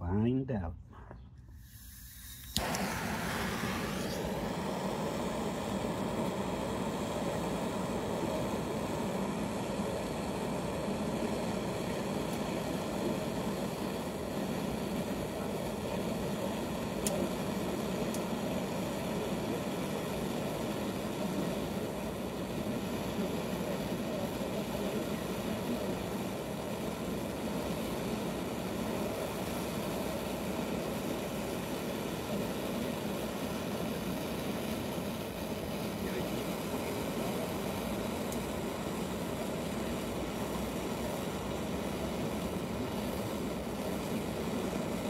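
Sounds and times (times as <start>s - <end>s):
torch flame rushing: 1.5s - 45.0s.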